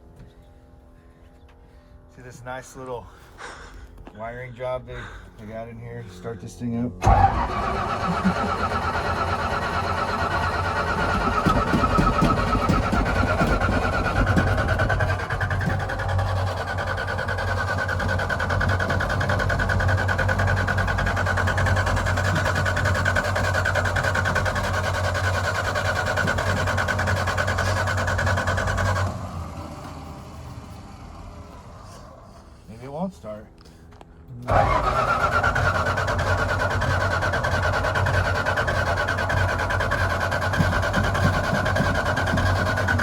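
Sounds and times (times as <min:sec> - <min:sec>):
engine cranking by starter: 0:06.9 - 0:32.8, 0:33.5 - 0:43.0.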